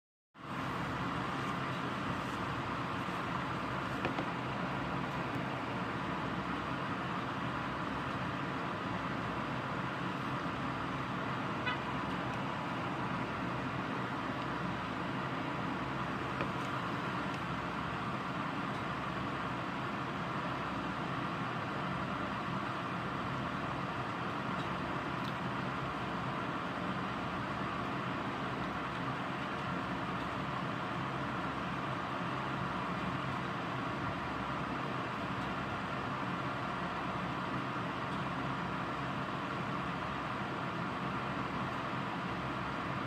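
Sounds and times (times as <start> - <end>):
low steady hum: 0.4 - 43.0
steady rain hiss: 0.4 - 43.0.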